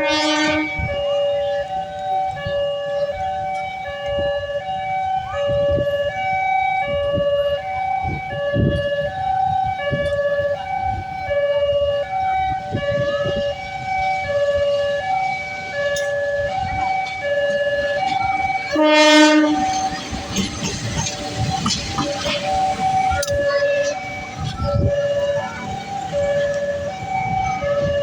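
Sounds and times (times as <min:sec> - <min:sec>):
two-tone electronic alarm: 0:00.0 - 0:28.0.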